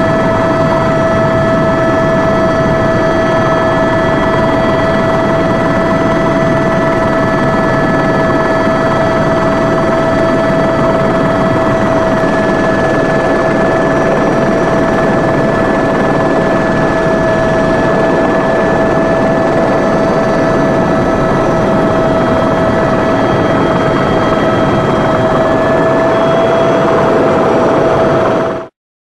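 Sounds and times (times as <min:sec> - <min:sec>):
constant whine: 0:00.0 - 0:28.7
helicopter engine and rotor rush: 0:00.0 - 0:28.7.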